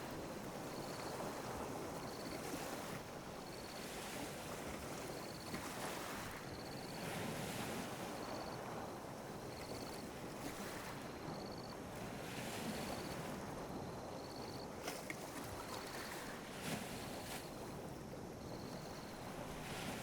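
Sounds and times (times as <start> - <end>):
ocean waves washing on beach: 0.0 - 20.0.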